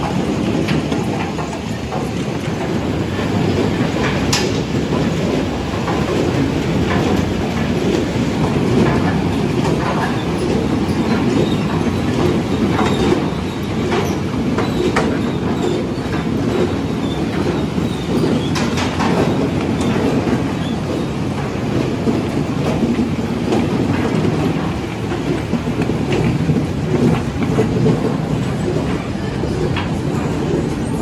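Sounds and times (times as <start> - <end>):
conveyor belts rattling: 0.0 - 31.0.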